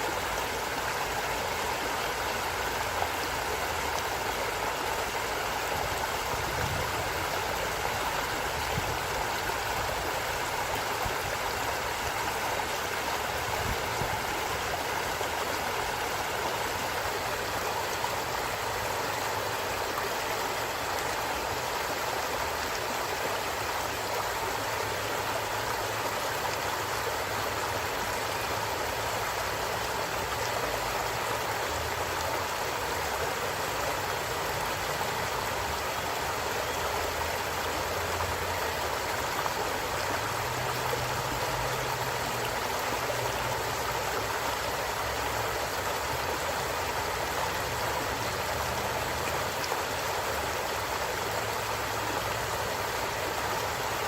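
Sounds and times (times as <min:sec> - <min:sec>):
forest stream running: 0:00.0 - 0:54.0.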